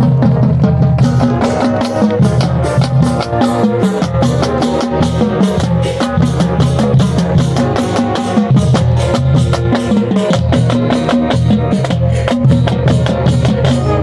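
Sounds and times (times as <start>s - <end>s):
brass holding low notes: 0.0s - 14.0s
fast drum beat: 0.0s - 14.0s.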